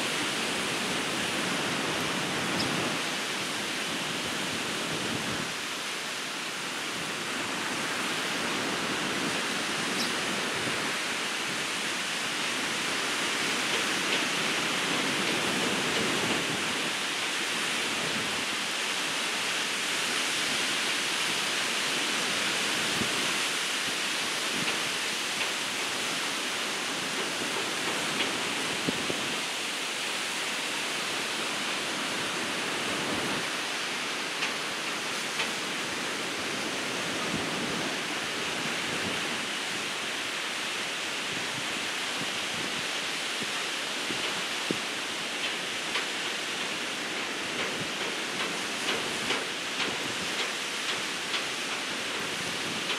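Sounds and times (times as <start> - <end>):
ocean surf breaking: 0.0 - 52.9.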